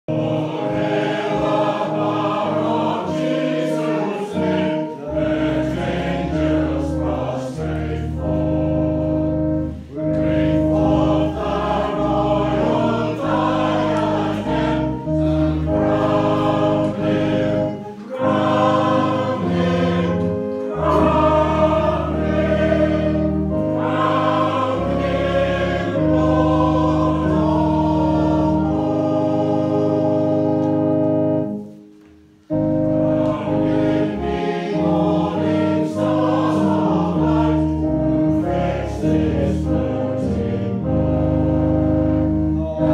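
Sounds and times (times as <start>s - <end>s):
keyboard holding long chords: 0.0s - 42.9s
congregation singing a hymn: 0.1s - 42.9s.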